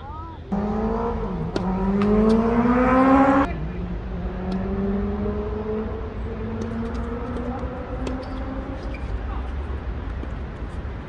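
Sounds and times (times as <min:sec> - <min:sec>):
vehicle engine accelerating: 0:00.5 - 0:09.4.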